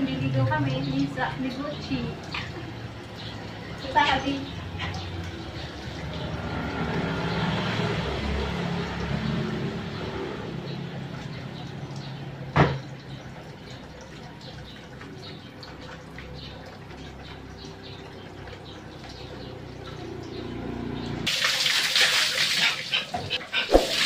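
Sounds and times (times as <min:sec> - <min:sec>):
water splashing and dripping: 0:00.0 - 0:24.0.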